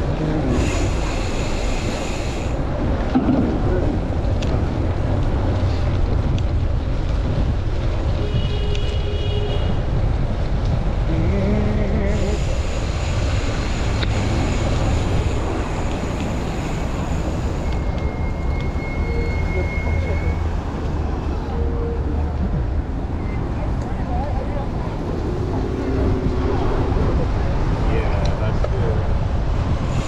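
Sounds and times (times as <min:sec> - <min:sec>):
traffic noise: 0:00.0 - 0:30.0
wind buffeting microphone: 0:00.0 - 0:30.0.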